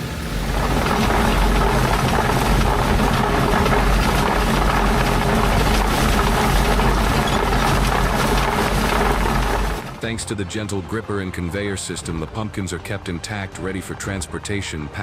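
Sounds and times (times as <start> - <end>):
harvester engine drone: 0.0 - 15.0.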